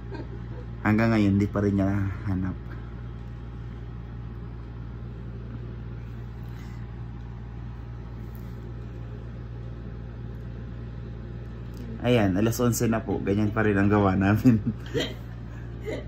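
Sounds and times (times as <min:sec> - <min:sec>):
motor appliance humming: 0:00.0 - 0:16.0.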